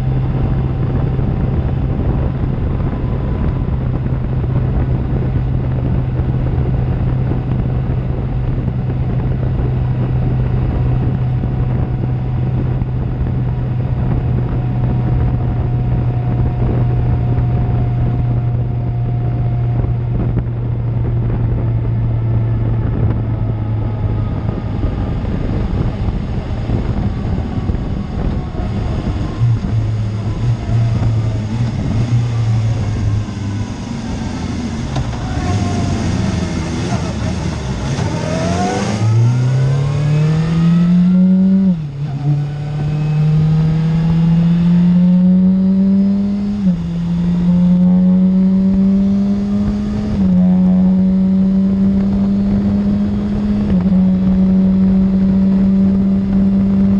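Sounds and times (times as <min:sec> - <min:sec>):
motorcycle engine droning: 0:00.0 - 0:56.9
wind noise on microphone: 0:00.0 - 0:56.9.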